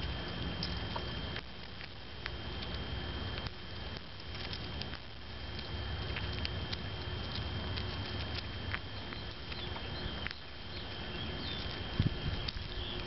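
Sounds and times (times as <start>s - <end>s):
seed shells cracking: 0.6s - 13.0s.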